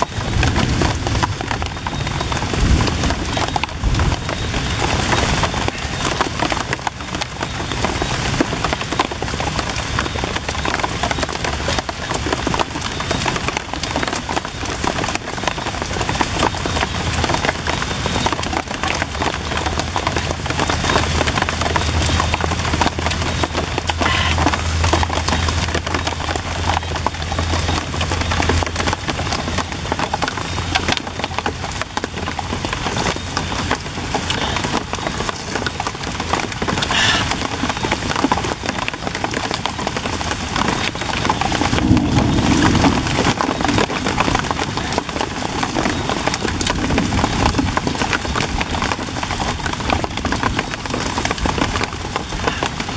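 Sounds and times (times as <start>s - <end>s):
rain falling on leaves: 0.0s - 52.9s.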